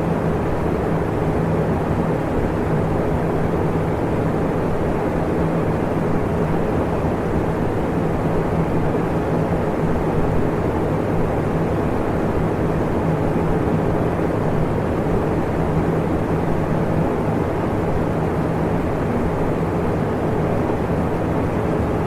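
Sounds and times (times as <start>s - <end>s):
electric fan air rush: 0.0s - 22.0s.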